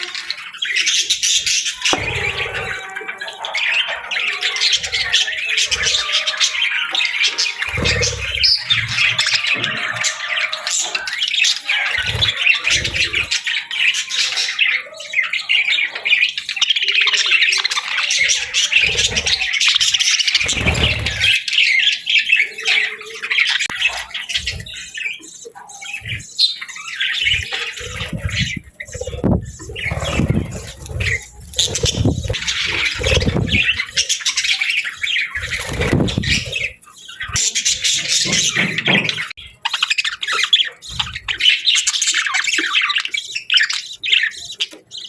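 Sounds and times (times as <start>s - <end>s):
budgerigars chattering and squawking: 0.0s - 45.0s.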